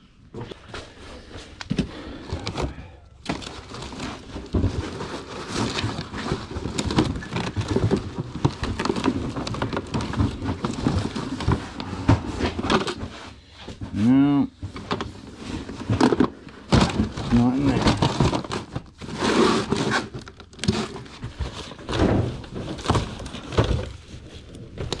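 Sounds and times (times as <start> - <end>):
rummaging through belongings: 0.2 - 25.0.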